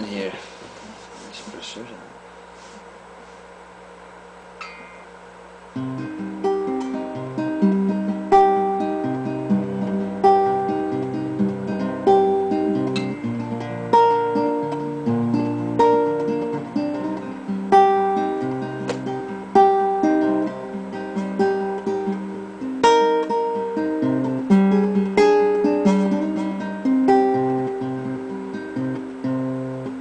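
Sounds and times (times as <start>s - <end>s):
fingerpicked acoustic guitar: 5.7s - 30.0s.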